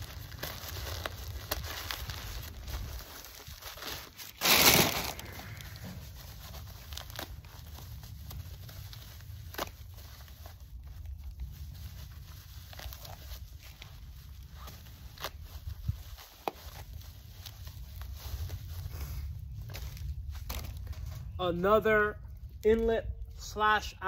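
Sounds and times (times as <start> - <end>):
steady low rumble: 0.0 - 14.5, 16.9 - 24.0
packaging rustling: 0.0 - 21.4
packaging tearing and crinkling: 0.0 - 21.4.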